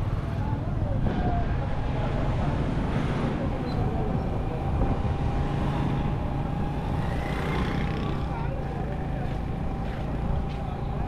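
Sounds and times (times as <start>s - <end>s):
motorcycles and cars passing: 0.0s - 11.0s.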